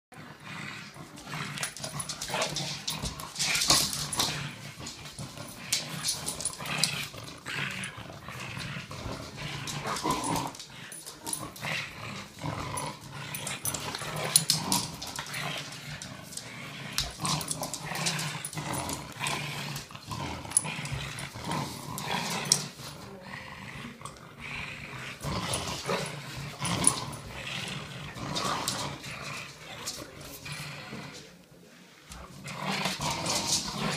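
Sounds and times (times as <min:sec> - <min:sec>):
dogs growling: 0:00.1 - 0:33.9.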